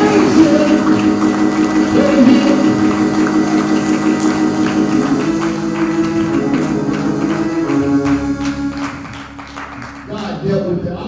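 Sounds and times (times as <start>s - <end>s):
sustained keyboard chords: 0.0s - 10.5s.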